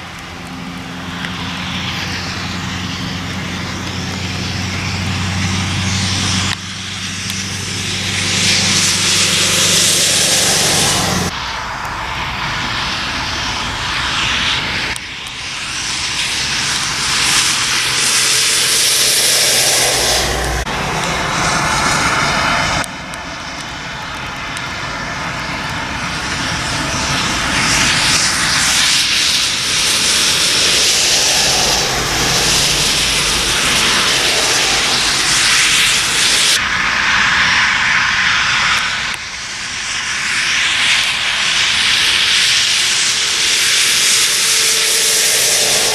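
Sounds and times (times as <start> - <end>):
lorries passing on wet road: 0.0 - 45.9.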